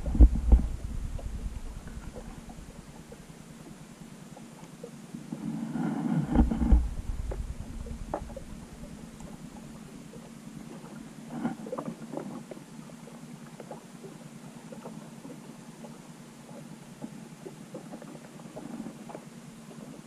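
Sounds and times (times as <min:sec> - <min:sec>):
muffled underwater water surge: 0:00.0 - 0:20.0
steady low hum: 0:00.0 - 0:20.0.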